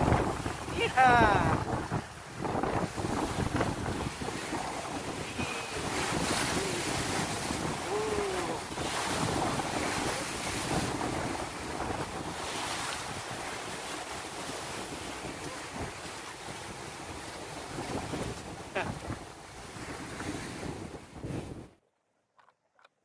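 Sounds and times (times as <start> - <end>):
sea waves washing: 0.0 - 21.7
wind buffeting microphone: 0.0 - 21.8.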